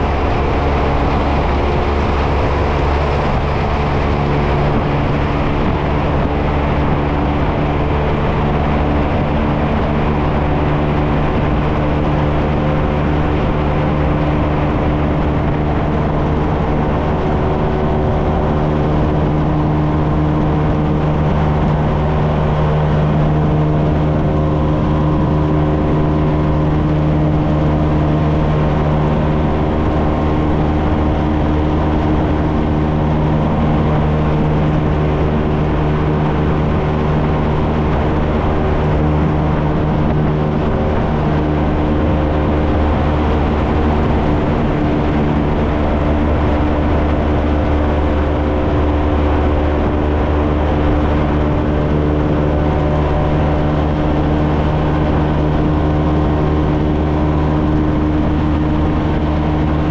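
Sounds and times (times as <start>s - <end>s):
motorcycle engine droning: 0.0s - 59.9s
wind and road noise: 0.0s - 59.9s.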